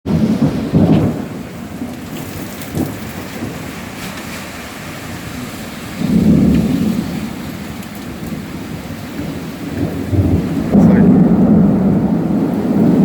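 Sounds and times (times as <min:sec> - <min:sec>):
heavy rain pouring: 0:00.0 - 0:13.0
deep low thunder rumble: 0:00.1 - 0:04.0, 0:05.0 - 0:13.0.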